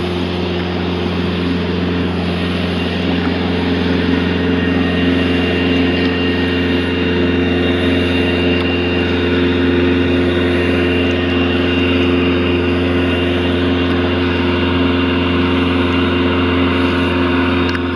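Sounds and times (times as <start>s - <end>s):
motorboat engine rumbling: 0.0s - 17.9s.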